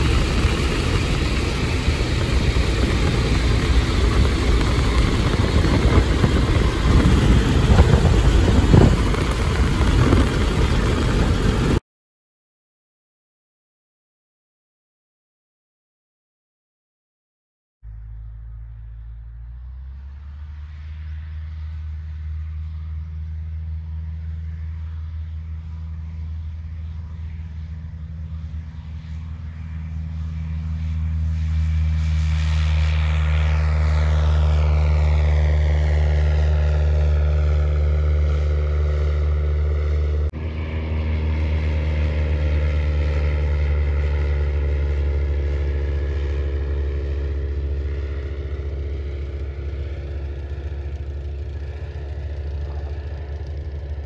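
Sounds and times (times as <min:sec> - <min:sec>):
propeller airplane engine: 0:00.0 - 0:11.8, 0:17.9 - 0:54.0.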